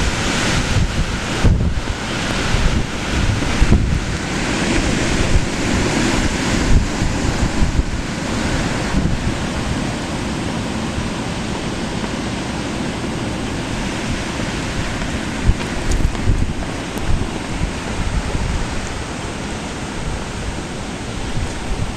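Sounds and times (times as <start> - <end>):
wind blowing across microphone: 0.0 - 21.9.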